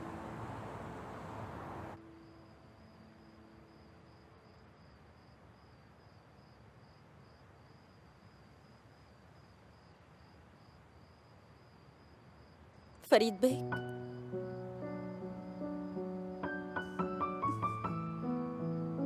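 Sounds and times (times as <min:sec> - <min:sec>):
faint crickets chirping: 0:00.0 - 0:19.0.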